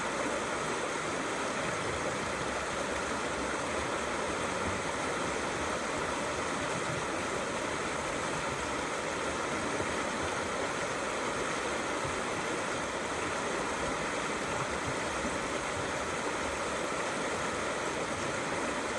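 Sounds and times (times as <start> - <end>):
river flowing over stones: 0.0 - 18.9.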